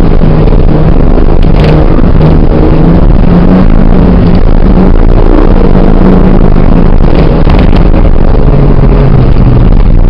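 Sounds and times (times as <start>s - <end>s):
loud rushing water: 0.0s - 10.0s
off-road vehicle engine under load: 0.0s - 10.0s.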